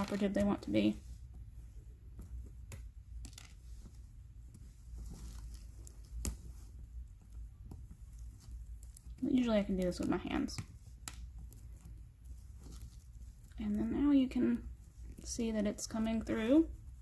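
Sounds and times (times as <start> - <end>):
faint plastic rustling: 0.0 - 17.0
low steady hum: 0.0 - 17.0.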